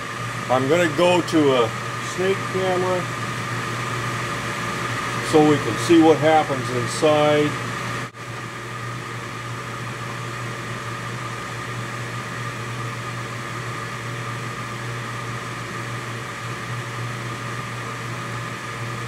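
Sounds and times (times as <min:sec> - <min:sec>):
gas furnace humming: 0:00.0 - 0:19.0.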